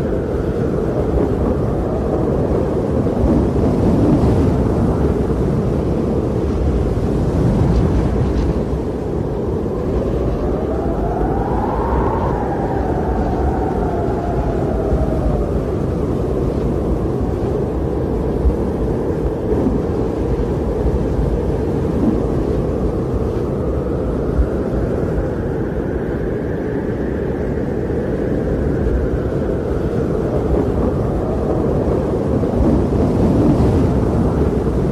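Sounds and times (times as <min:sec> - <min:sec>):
howling blizzard wind: 0:00.0 - 0:34.9.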